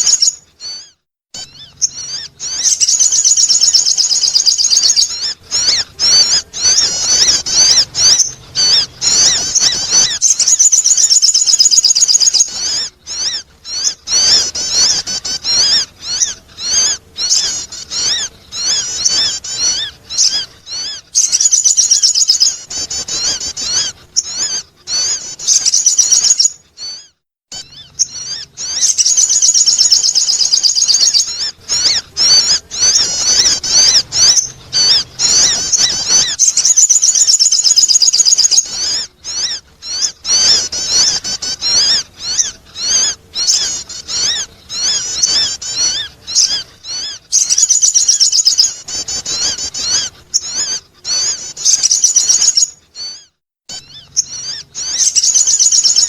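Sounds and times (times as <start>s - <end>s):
sunbird high-pitched twittering: 0.0s - 56.0s.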